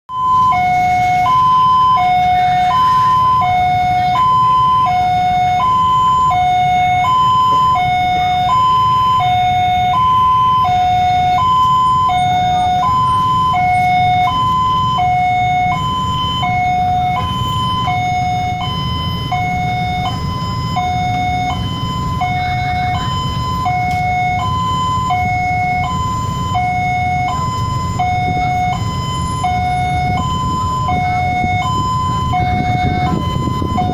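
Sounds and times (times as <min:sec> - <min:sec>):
level crossing alarm two-tone: 0:00.1 - 0:33.9.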